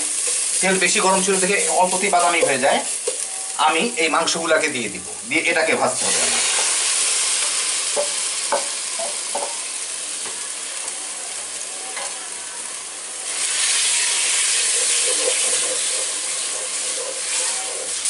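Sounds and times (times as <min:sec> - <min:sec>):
meat sizzling in hot oil: 0:00.0 - 0:18.0.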